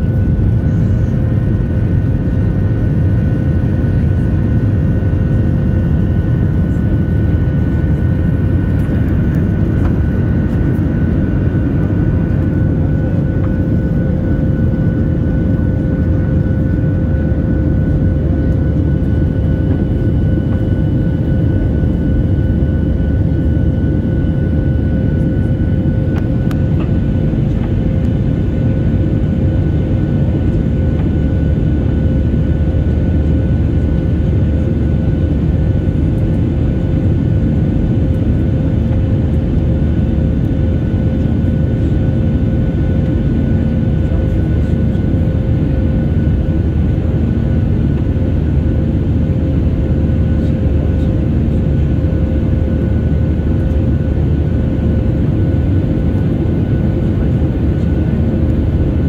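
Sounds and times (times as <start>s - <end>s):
engine and airflow rumble: 0.0s - 59.0s.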